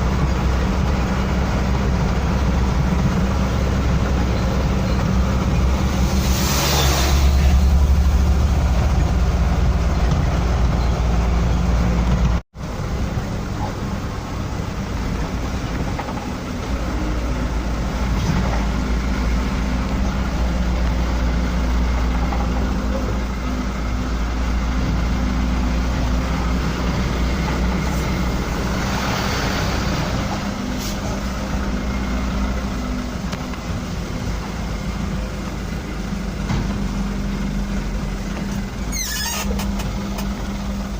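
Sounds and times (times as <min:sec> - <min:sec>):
road noise: 0:00.0 - 0:40.9
truck engine running: 0:00.0 - 0:40.9.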